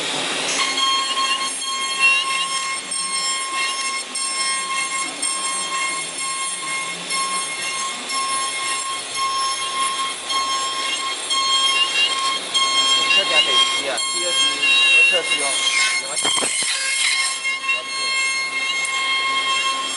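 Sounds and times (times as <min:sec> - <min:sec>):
router spindle whine: 0:00.0 - 0:19.9
cutter chirps in wood: 0:00.4 - 0:19.9.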